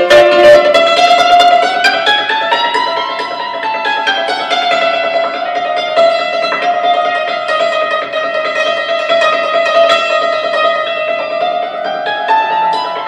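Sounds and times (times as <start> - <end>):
cimbalom played with hammers: 0.0 - 13.0.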